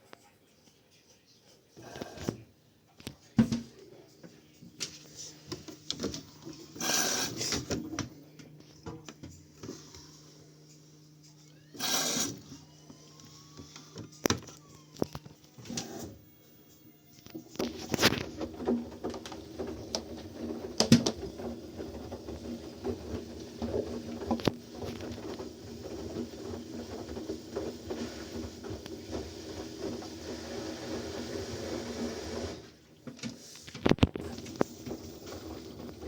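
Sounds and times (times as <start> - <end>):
washing machine motor hum: 3.4 - 36.0.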